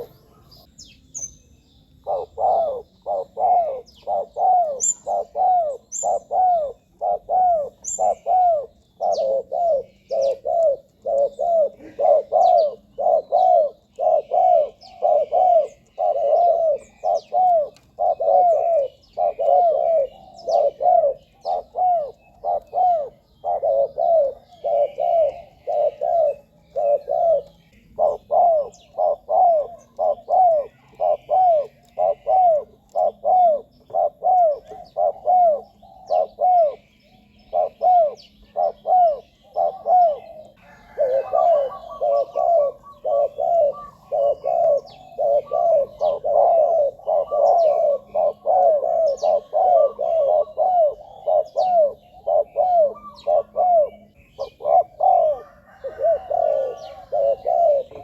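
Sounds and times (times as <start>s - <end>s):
dove cooing: 0.0s - 0.8s, 2.0s - 58.0s
small birds chirping: 0.0s - 58.0s.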